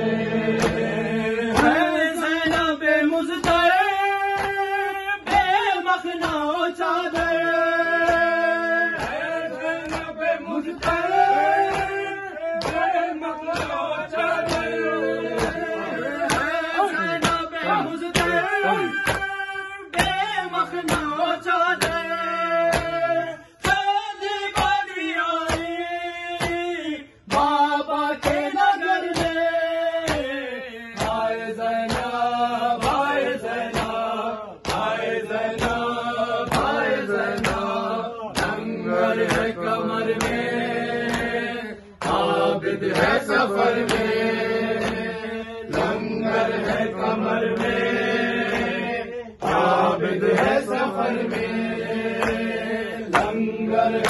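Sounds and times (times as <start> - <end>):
men chanting a lament: 0.0 - 54.0
rhythmic chest-beating hand-slaps: 0.0 - 54.0.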